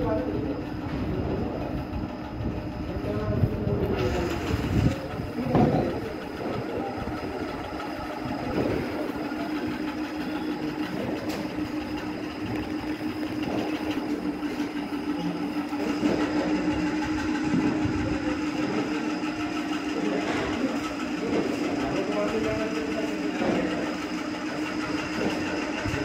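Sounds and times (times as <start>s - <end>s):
constant hum: 0.0s - 26.0s
mechanical rumble: 0.0s - 26.0s.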